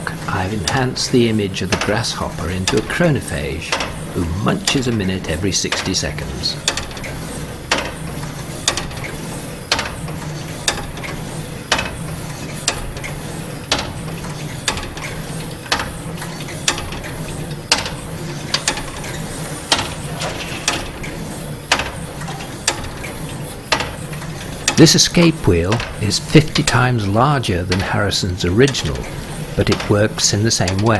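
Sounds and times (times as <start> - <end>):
clock escapement ticking: 0.0 - 23.1, 23.7 - 30.9.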